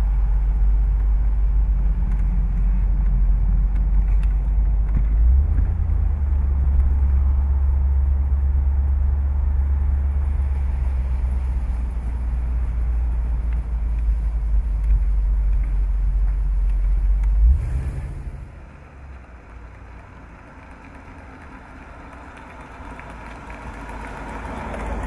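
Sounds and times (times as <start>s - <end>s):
car driving up: 0.0s - 25.0s
car engine and road rumble: 0.0s - 25.0s.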